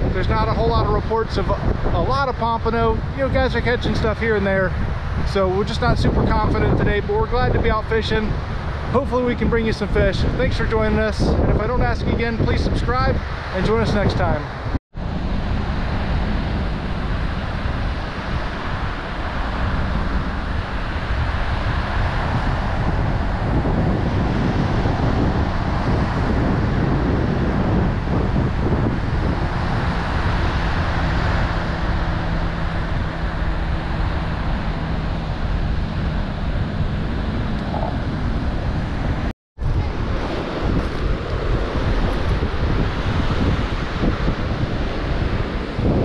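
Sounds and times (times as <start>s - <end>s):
surf breaking on beach: 0.0s - 46.0s
wind buffeting microphone: 0.0s - 46.0s.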